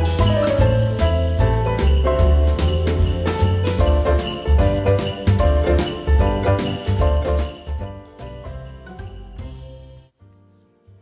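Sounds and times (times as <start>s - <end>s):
music with jingling sleigh bells: 0.0s - 10.1s.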